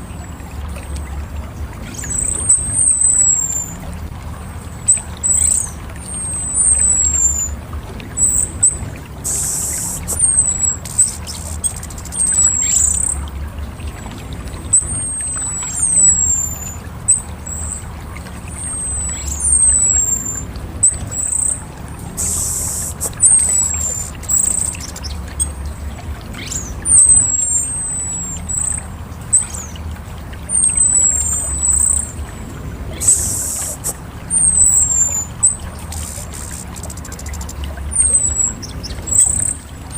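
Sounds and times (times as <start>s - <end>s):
steady low rumble: 0.0s - 39.9s
thrush calling: 1.8s - 29.8s, 30.4s - 39.9s.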